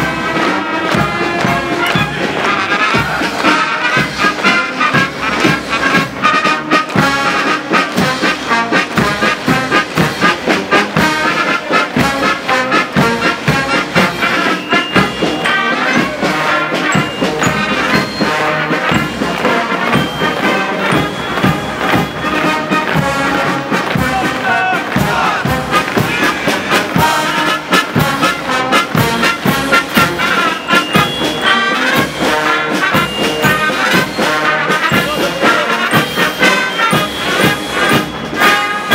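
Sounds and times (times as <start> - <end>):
brass band playing a march: 0.0 - 38.9.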